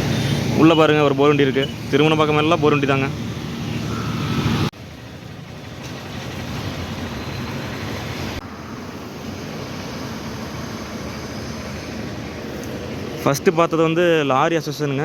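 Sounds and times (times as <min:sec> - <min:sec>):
vehicle engine hum: 0:00.0 - 0:13.8
road and wind noise: 0:00.0 - 0:15.0.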